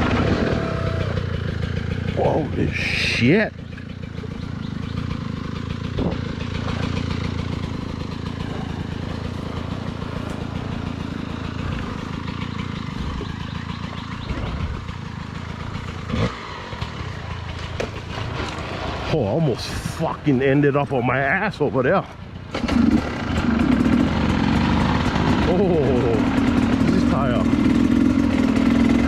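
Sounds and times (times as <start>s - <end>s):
dirt bike engine at low revs: 0.0s - 29.0s.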